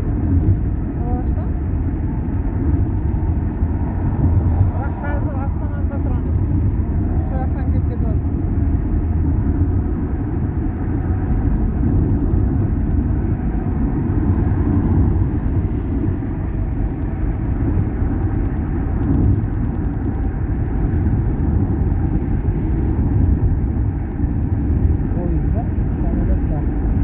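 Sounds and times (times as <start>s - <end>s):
car driving on road: 0.0s - 27.0s
tyre and engine noise: 0.0s - 27.0s.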